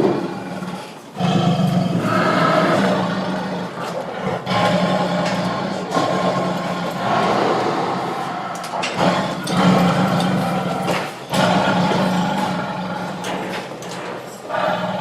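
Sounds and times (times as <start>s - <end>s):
tiger growling: 0.0s - 15.0s.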